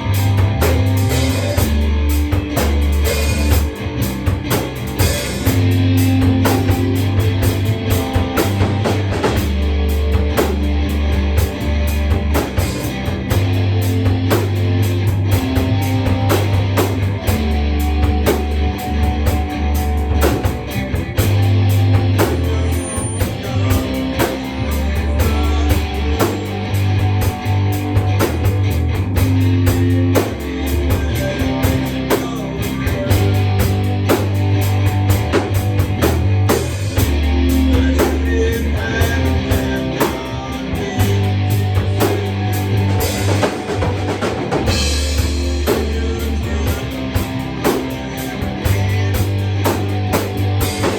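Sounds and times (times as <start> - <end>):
rock music: 0.0 - 50.9.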